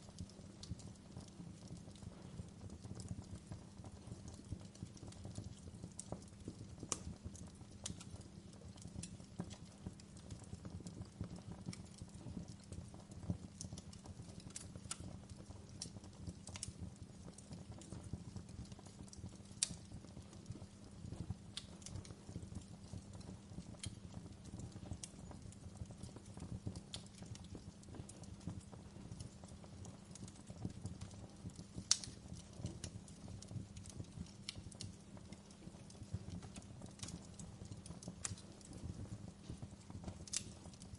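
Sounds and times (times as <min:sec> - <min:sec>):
burning wood crackling and popping: 0:00.0 - 0:40.9
low rumble of flames: 0:00.0 - 0:40.9.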